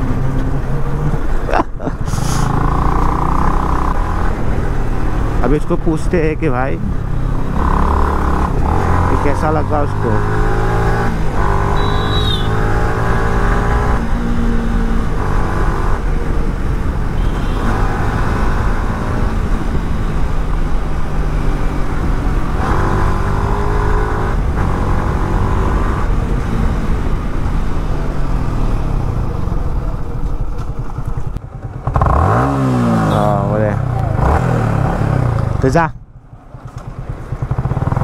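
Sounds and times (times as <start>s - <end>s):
motorcycle engine accelerating: 0.0s - 5.8s, 6.6s - 38.0s
wind and road noise rumble: 0.0s - 38.0s.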